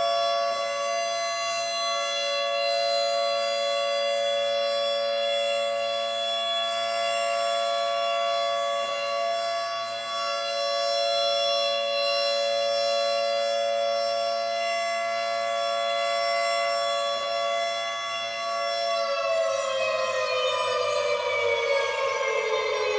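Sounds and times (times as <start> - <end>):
air raid siren: 0.0 - 22.9.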